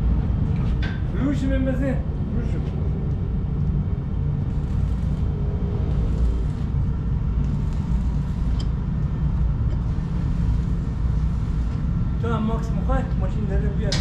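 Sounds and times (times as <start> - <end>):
faint hum: 0.0 - 14.0
low rumble: 0.0 - 14.0.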